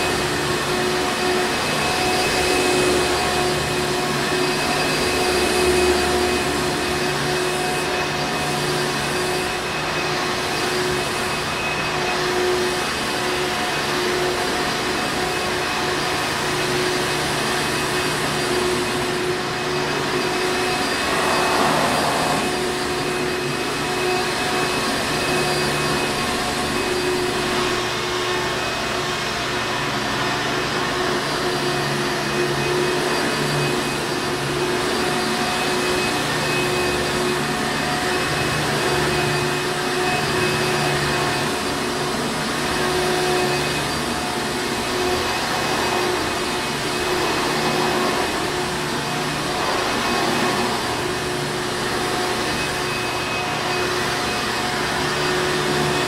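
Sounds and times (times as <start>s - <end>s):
upright vacuum cleaner running: 0.0s - 56.0s.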